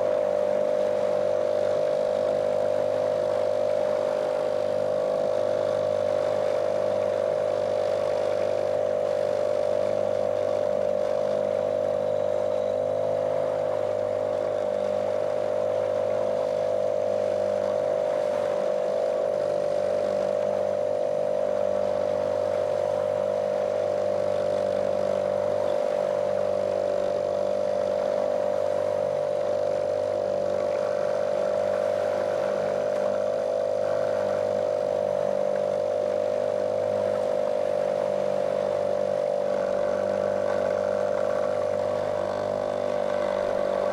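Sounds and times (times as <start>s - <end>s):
motorboat motor droning: 0.0s - 43.9s.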